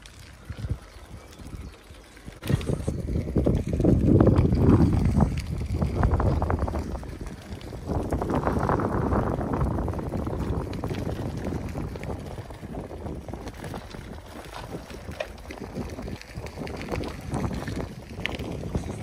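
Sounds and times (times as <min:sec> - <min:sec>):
bicycle tyres rolling on gravel: 0:00.0 - 0:19.0
wind buffeting microphone: 0:00.0 - 0:19.0.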